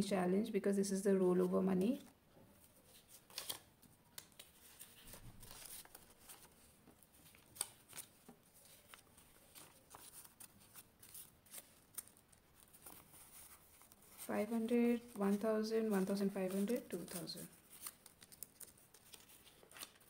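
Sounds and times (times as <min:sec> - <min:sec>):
paper banknotes rustling: 0:02.6 - 0:20.0.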